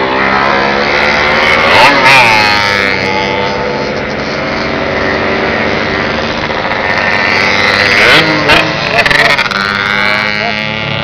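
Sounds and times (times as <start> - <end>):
motorcycle engine revving: 0.0 - 11.0
motorcycle engines droning: 0.0 - 11.0.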